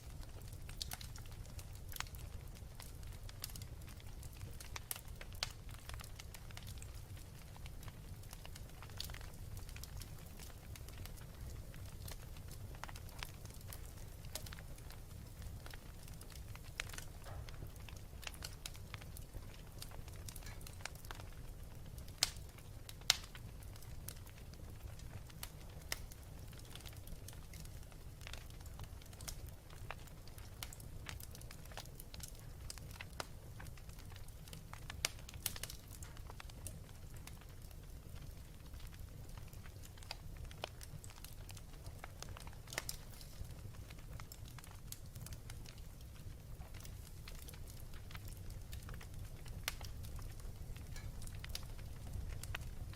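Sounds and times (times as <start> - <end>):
wood fire crackling: 0.0 - 52.9
loud fire pops: 0.2 - 24.4, 25.2 - 52.9.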